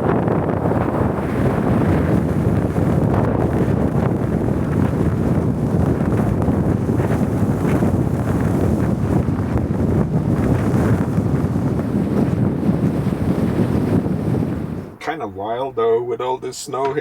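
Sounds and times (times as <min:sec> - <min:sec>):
blizzard wind buffeting microphone: 0:00.0 - 0:16.9.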